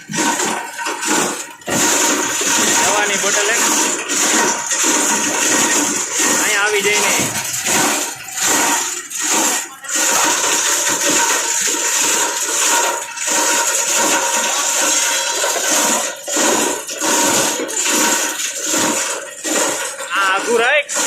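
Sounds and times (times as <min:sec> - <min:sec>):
plastic grinder chopping plastic: 0:00.0 - 0:21.0.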